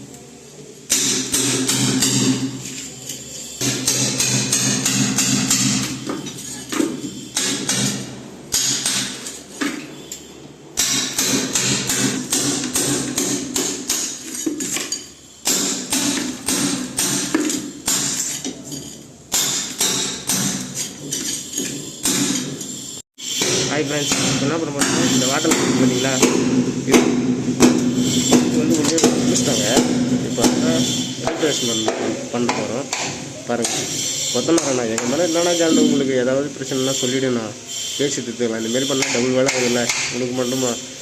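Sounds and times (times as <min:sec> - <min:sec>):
hammer striking masonry: 0:00.9 - 0:02.7, 0:03.6 - 0:09.8, 0:10.8 - 0:18.6, 0:19.3 - 0:36.2, 0:38.8 - 0:40.8.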